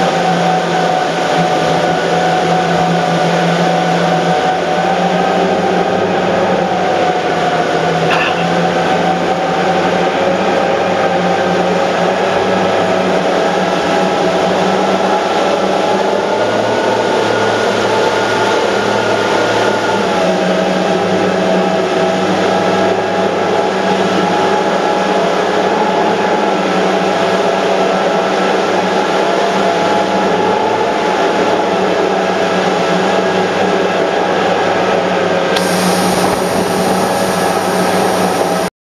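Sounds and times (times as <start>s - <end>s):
boat engines droning: 0.0s - 38.7s
churning wake rushing: 0.0s - 38.7s
wind: 0.0s - 38.7s.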